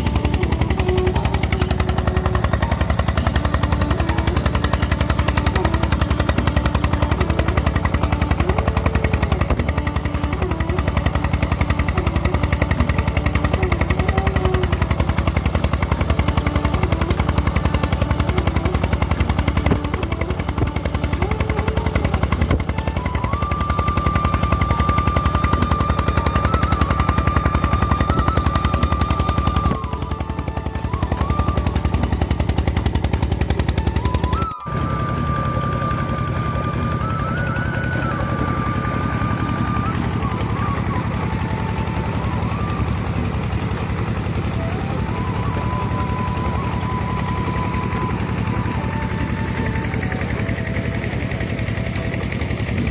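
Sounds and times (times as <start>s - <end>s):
diesel engine knocking: 0.0s - 52.9s
steady high tone: 0.0s - 52.9s.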